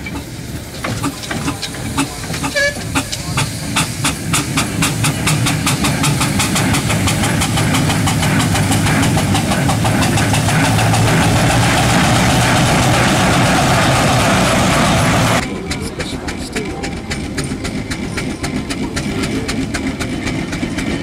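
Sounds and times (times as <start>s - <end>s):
low mechanical rumble: 0.0s - 18.1s
rush of steam: 0.0s - 21.0s
steam roller exhaust chuffs: 0.0s - 21.0s.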